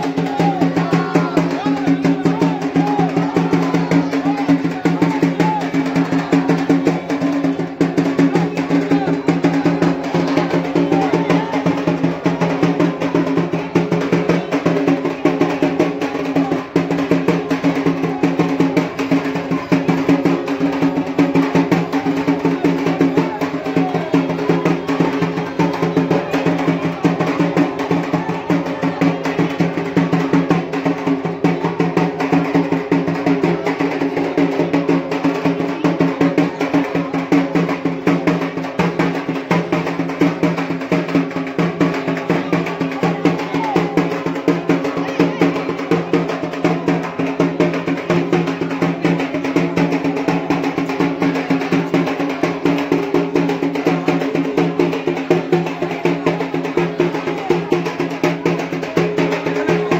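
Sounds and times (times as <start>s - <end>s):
fast drum roll: 0.0s - 59.9s.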